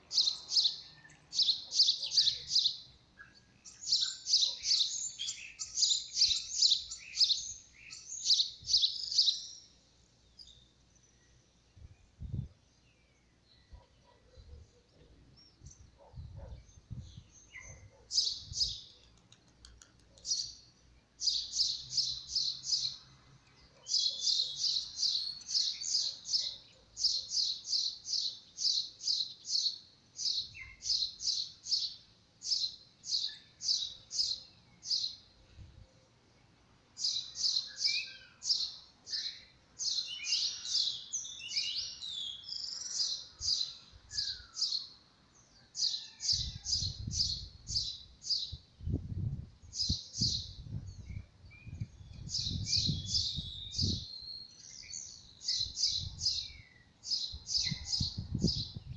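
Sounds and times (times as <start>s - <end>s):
small bird chirping: 0.0s - 35.3s, 37.0s - 58.9s.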